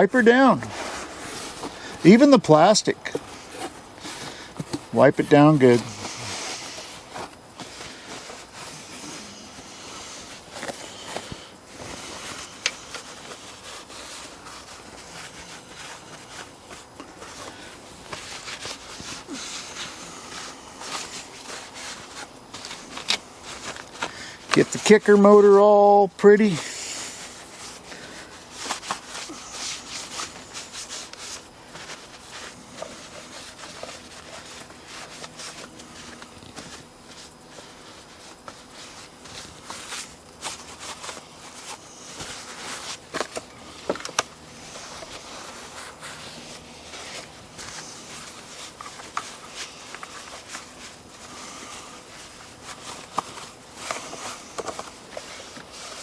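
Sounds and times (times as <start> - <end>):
rag wiping a motor: 0.0 - 56.0.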